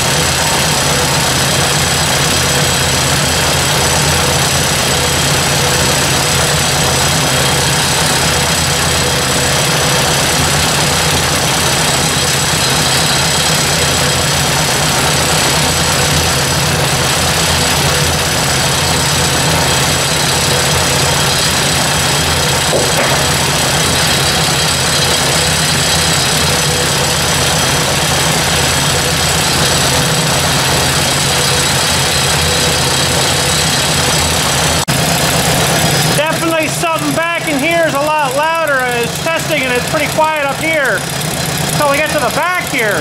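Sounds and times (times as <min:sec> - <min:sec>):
tractor engine idling: 0:00.0 - 0:43.0.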